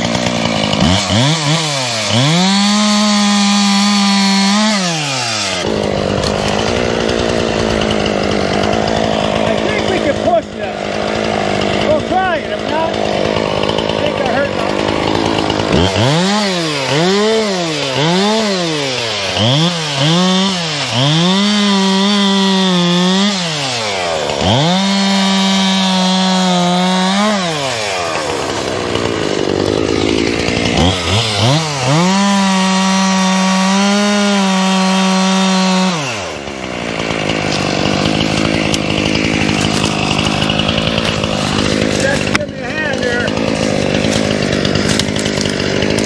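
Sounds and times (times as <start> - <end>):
chainsaw revving: 0.0 - 46.0.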